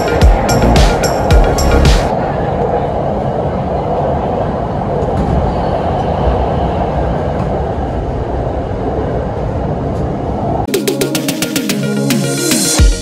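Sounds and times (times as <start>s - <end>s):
train rumble and rail noise: 0.0s - 10.8s.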